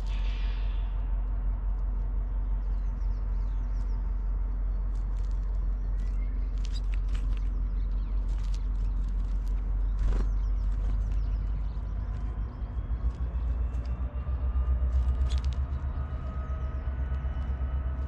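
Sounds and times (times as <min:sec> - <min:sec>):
distant bird chirps: 0:00.0 - 0:18.0
low rumble: 0:00.0 - 0:18.0.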